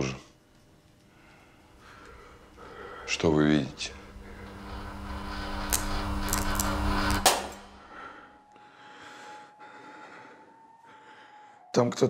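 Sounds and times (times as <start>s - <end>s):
low humming drone: 1.1s - 11.4s.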